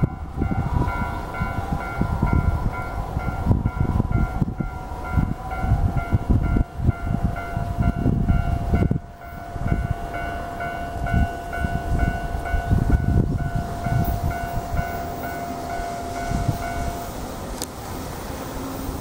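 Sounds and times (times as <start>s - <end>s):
steady warning tone: 0.0s - 17.4s
electric train rumbling: 0.0s - 19.0s.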